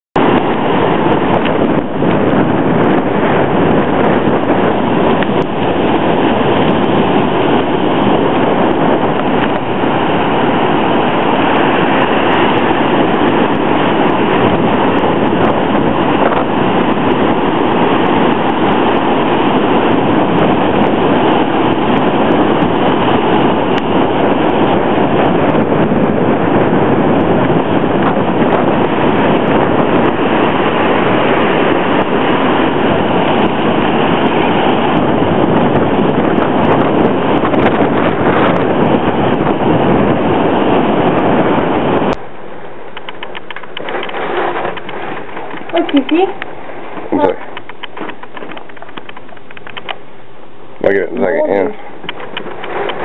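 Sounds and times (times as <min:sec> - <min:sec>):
hurricane wind rushing: 0:00.0 - 0:53.0
heavy surf breaking: 0:00.2 - 0:53.0.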